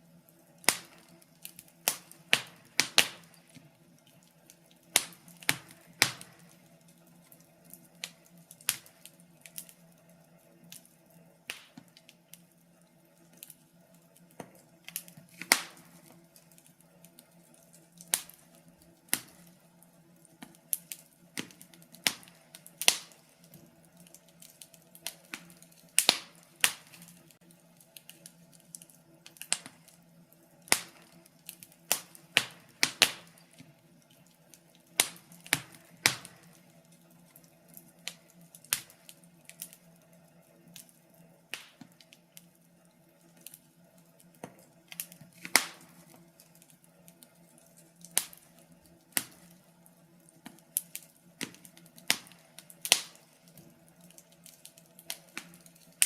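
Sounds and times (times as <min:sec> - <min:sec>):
faint steady hum: 0:00.0 - 0:56.0
firewood crackling and popping: 0:00.0 - 0:56.0.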